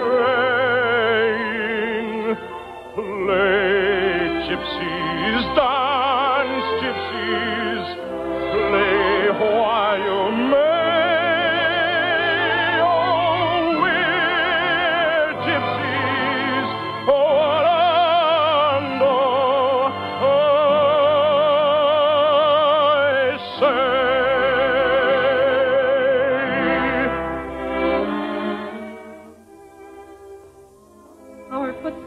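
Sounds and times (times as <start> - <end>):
orchestra playing operetta music: 0.0 - 32.0.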